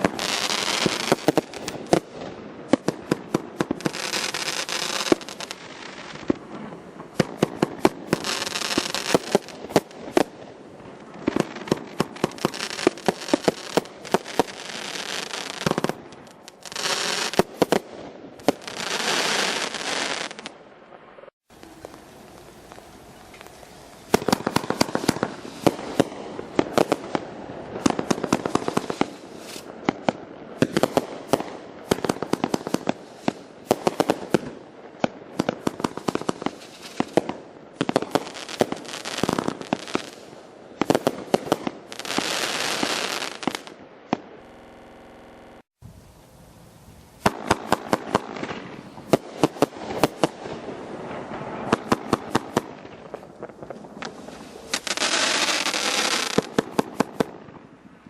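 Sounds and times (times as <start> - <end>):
fireworks sharp reports: 0.0 - 20.6, 21.2 - 45.7, 47.2 - 58.0
fireworks crackle: 0.0 - 58.0.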